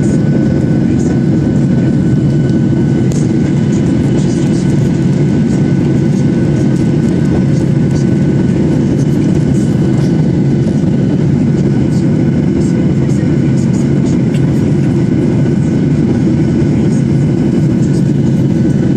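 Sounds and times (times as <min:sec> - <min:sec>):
airliner cabin engine noise: 0:00.0 - 0:18.9.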